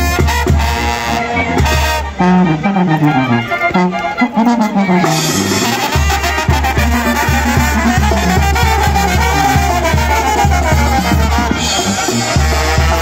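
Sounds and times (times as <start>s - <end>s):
brass band playing: 0.0s - 13.0s
tuba bass line: 0.0s - 13.0s.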